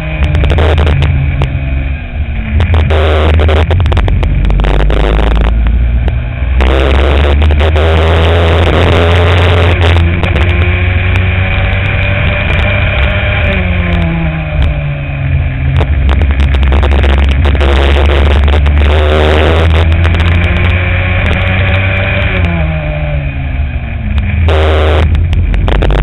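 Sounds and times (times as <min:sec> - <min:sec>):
kart engine running hard: 0:00.0 - 0:26.0
sharp engine crackles: 0:00.0 - 0:26.0.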